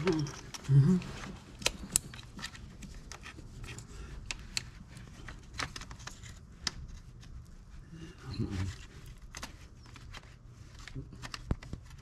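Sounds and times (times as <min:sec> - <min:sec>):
plastic parts clicking and rattling: 0:00.0 - 0:07.4, 0:08.6 - 0:12.0.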